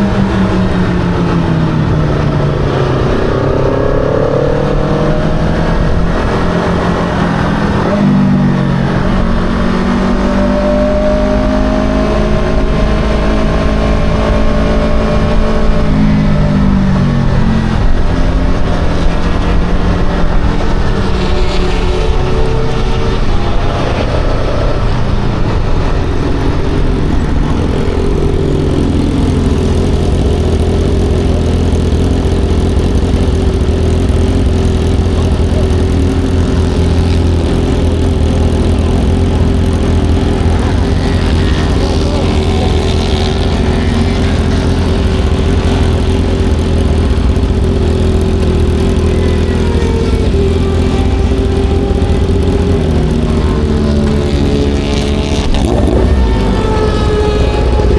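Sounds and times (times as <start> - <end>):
motorcycle engine running under load: 0.0 - 57.9.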